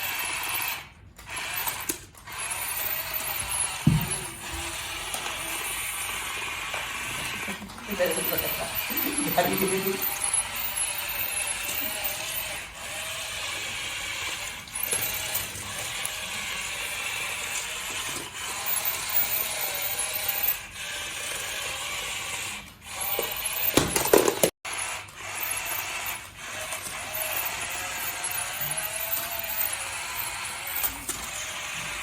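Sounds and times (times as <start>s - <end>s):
toy motors whirring and grinding: 0.0s - 32.0s.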